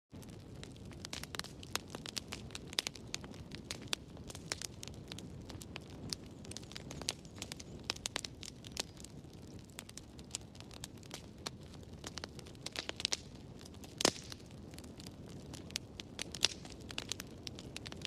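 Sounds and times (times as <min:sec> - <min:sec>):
fireplace fire crackling: 0:00.1 - 0:18.0.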